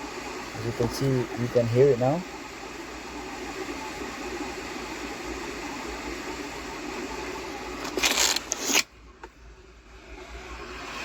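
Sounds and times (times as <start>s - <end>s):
blower motor rushing air: 0.0s - 8.8s.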